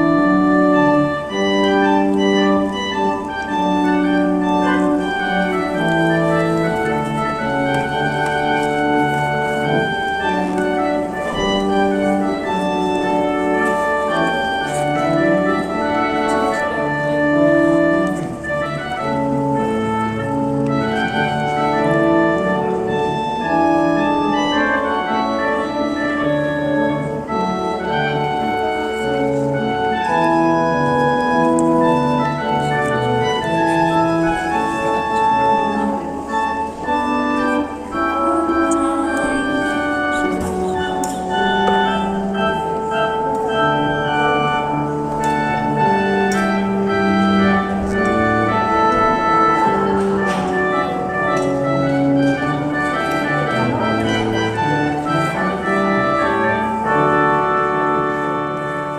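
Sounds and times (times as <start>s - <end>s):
organ playing slow chords: 0.0s - 58.9s.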